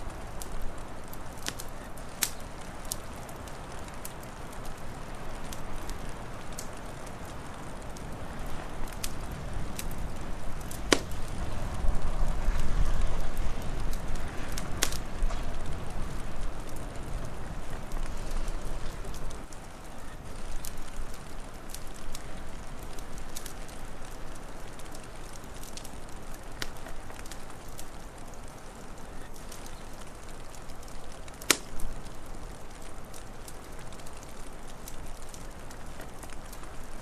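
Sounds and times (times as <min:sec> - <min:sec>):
low wind rumble: 0:00.0 - 0:37.0
steady hiss: 0:00.0 - 0:37.0
wood fire crackling and popping: 0:00.0 - 0:37.0.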